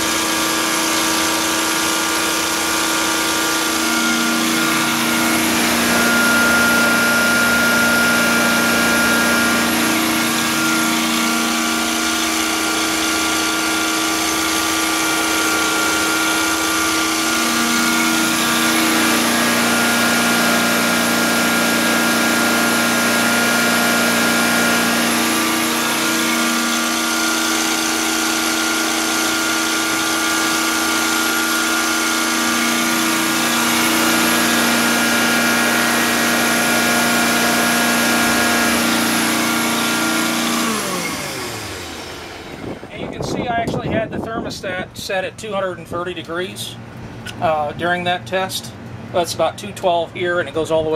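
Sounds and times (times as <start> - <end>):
carpet cleaning machine humming: 0.0 - 43.1.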